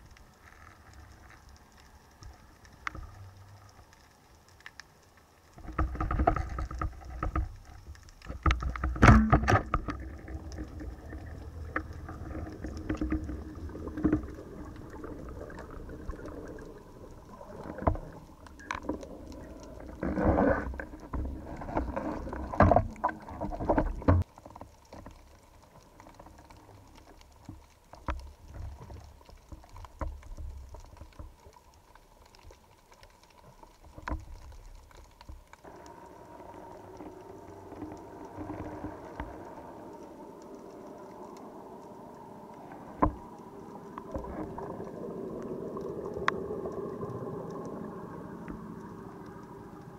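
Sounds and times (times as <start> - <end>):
underwater rumbling water noise: 0.0 - 49.9.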